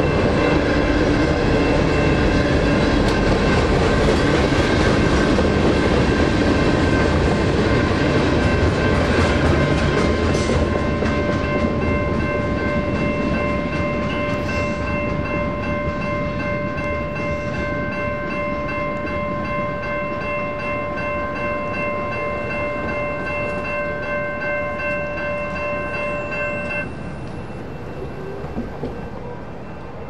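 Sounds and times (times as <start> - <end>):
freight train rumble: 0.0 - 30.0
railroad crossing bell ringing: 0.0 - 30.0.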